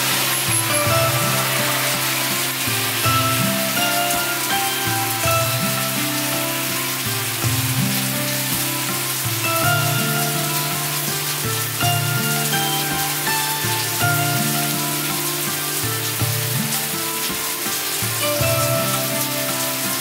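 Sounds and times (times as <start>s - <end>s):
soft background music: 0.0s - 20.0s
steady rain falling: 0.0s - 20.0s.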